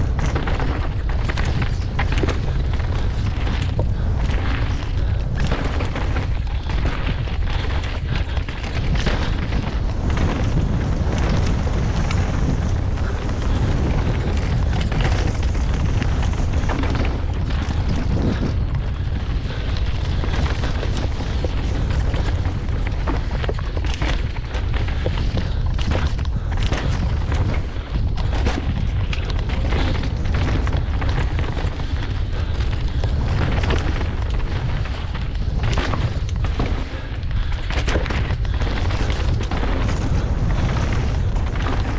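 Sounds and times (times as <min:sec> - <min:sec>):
bike clattering over rocks: 0:00.0 - 0:41.9
wind buffeting microphone: 0:00.0 - 0:41.9.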